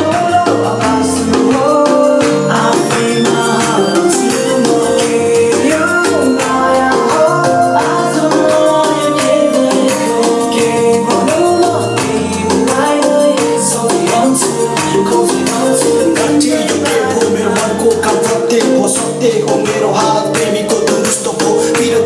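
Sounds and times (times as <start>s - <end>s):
song over speaker: 0.0s - 22.0s.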